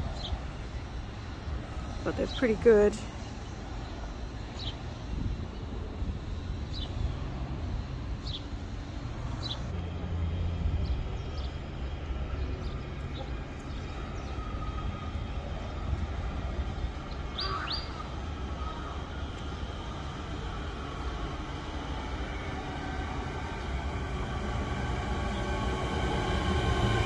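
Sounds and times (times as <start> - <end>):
distant train rumble: 0.0 - 27.0
faint steady whine: 0.0 - 27.0.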